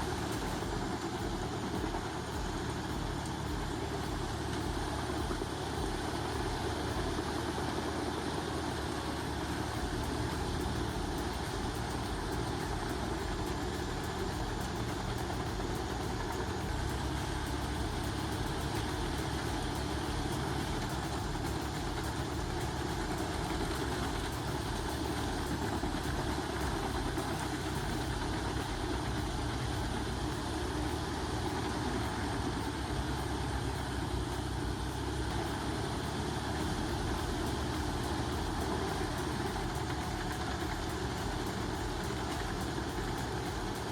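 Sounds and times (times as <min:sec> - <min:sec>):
heavy engine running: 0:00.0 - 0:43.9.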